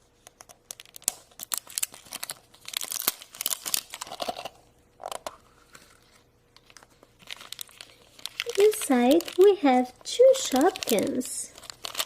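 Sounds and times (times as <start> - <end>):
wrapper crinkling and tearing: 0.2 - 12.0.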